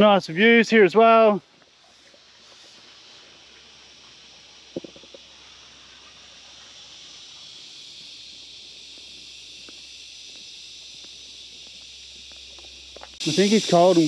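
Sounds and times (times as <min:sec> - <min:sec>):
insect chorus hiss: 0:00.0 - 0:14.0.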